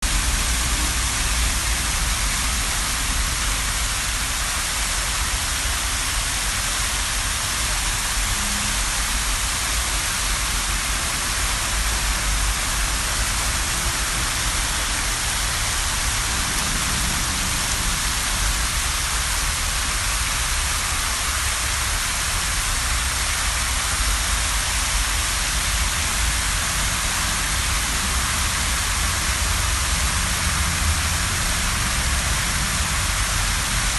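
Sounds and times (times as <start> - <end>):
fountain water splashing: 0.0 - 33.9.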